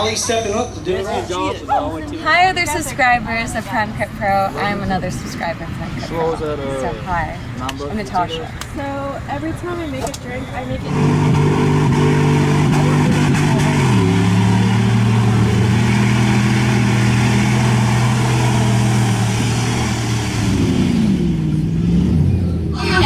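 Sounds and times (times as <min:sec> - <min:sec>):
off-road vehicle engine revving: 0:02.3 - 0:23.0.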